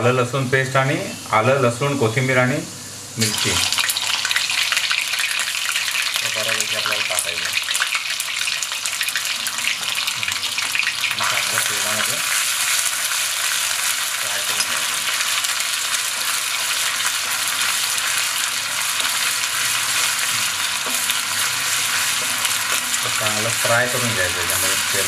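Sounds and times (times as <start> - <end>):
paste sizzling in hot oil: 3.2 - 25.0.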